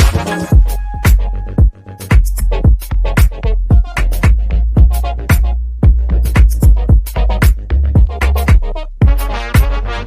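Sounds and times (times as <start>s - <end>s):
music with heavy kick drums: 0.0s - 9.9s.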